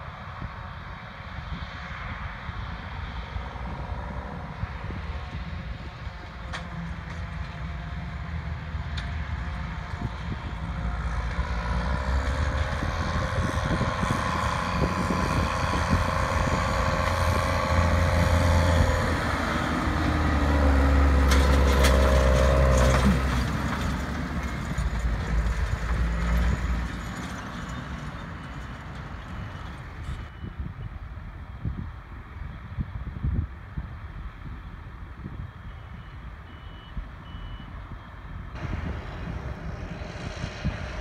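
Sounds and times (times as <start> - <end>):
diesel engine driving past: 0.1 - 30.5, 36.6 - 41.0.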